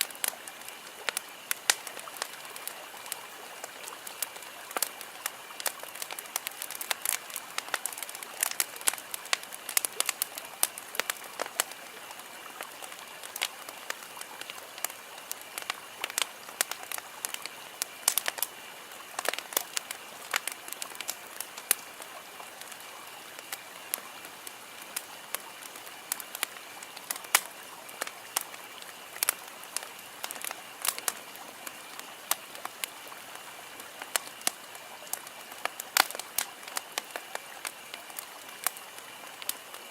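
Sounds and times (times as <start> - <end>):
campfire crackling and popping: 0.0 - 39.9
steady hiss: 0.0 - 39.9.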